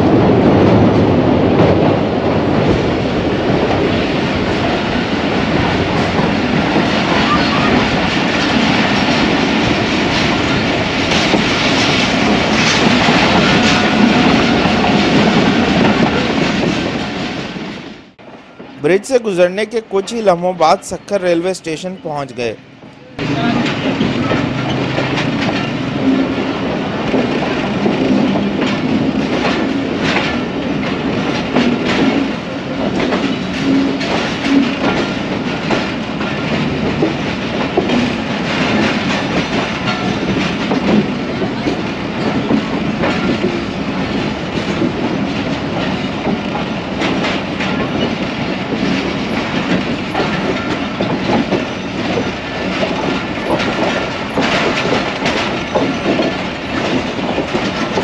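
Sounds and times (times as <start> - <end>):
train wheels clacking over rail joints: 0.0 - 19.0, 22.8 - 58.0.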